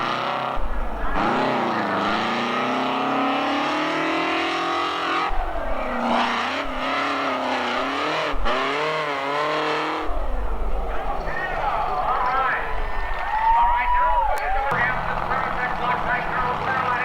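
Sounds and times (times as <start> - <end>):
truck engine revving: 0.0 - 13.8, 14.4 - 17.0.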